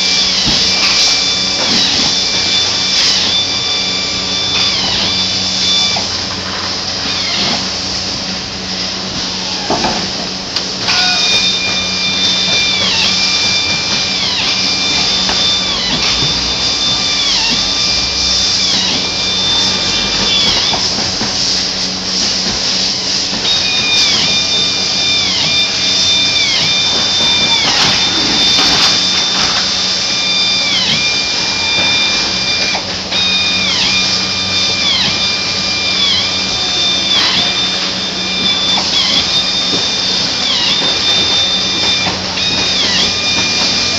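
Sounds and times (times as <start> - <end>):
power drill whining: 0.0 - 43.9.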